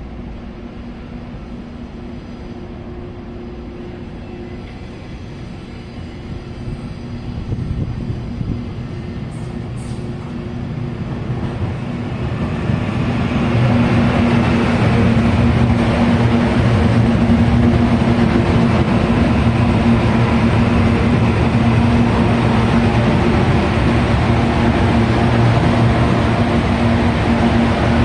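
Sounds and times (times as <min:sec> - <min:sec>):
train low hum: 0:00.0 - 0:28.0
train wheels rumbling on rails: 0:00.0 - 0:28.0.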